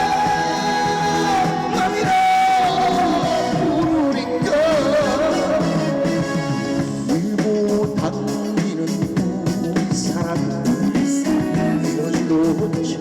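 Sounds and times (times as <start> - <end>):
trot music over sound system: 0.0 - 13.0.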